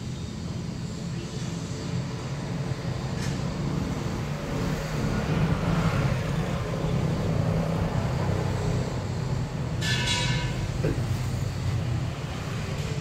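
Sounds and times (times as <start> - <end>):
traffic engines droning: 0.0 - 13.0.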